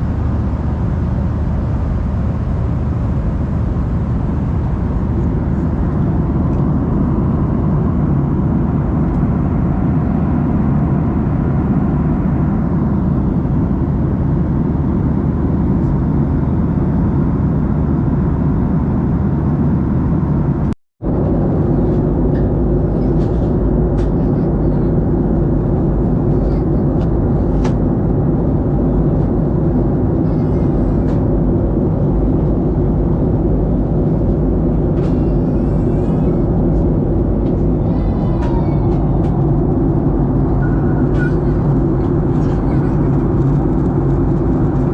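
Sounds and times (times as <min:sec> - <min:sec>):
airplane cabin engine drone: 0:00.0 - 0:44.9.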